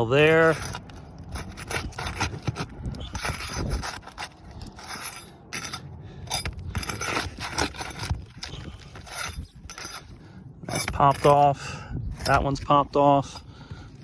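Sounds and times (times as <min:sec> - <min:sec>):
tool scraping and clicking on shingle: 0:00.0 - 0:14.0.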